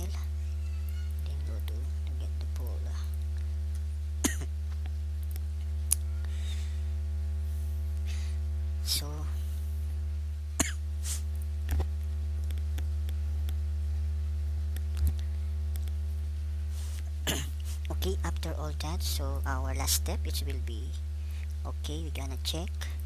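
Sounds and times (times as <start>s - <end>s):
low mains hum: 0.0s - 23.0s.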